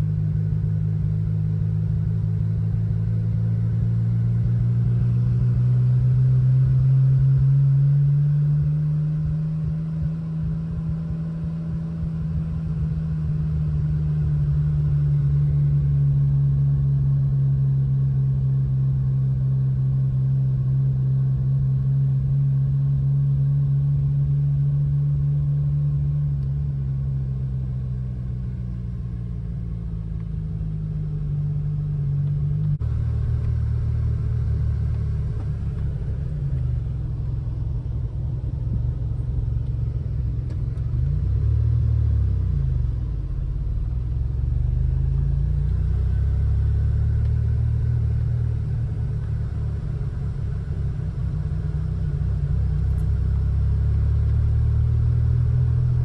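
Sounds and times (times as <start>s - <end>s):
car engine running from cabin: 0.0s - 56.0s.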